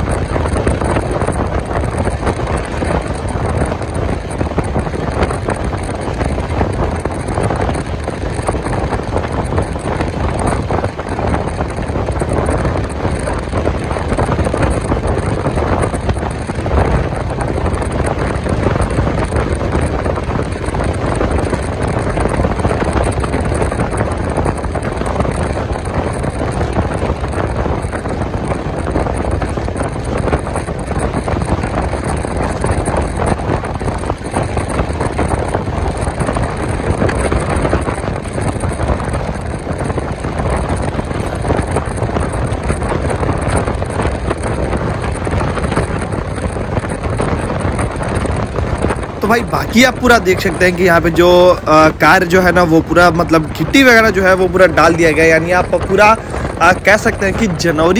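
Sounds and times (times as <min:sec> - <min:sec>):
train coach and wheels rumbling: 0:00.0 - 0:57.9
wind on microphone: 0:00.0 - 0:57.9.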